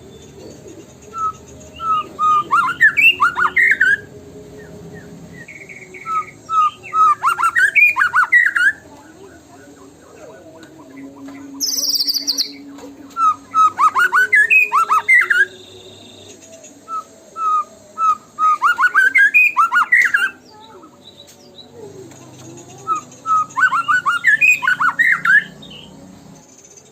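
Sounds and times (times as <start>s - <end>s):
songbird singing whistled notes: 0.0s - 26.9s.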